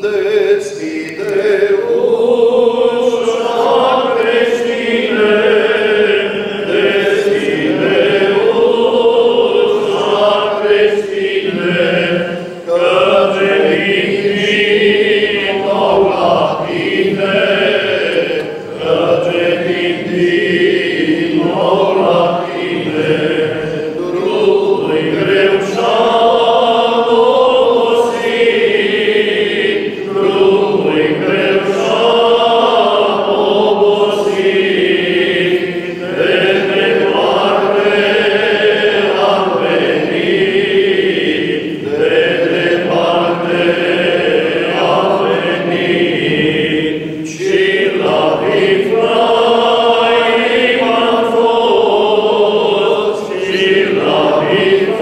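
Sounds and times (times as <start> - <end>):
men singing chant unaccompanied: 0.0 - 55.0.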